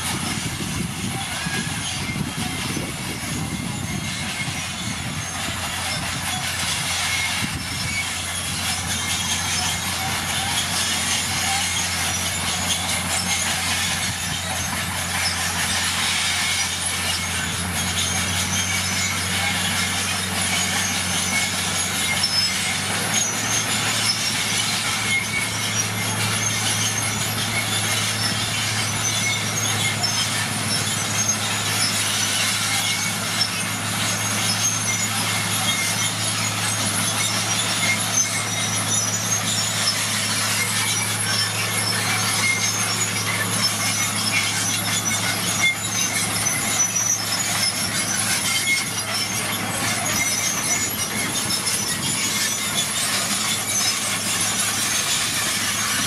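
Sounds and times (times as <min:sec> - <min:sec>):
bulldozer diesel engine running: 0:00.0 - 0:56.0
steel tracks clanking and squealing: 0:00.0 - 0:56.0.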